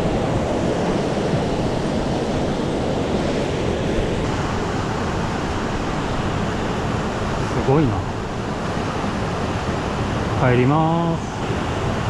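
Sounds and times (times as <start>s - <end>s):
water rushing in a stream: 0.0s - 12.0s.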